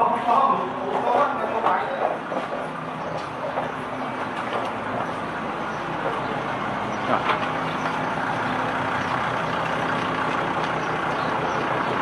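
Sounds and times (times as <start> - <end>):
street traffic: 0.0 - 12.0
vehicle engine idling: 0.0 - 12.0.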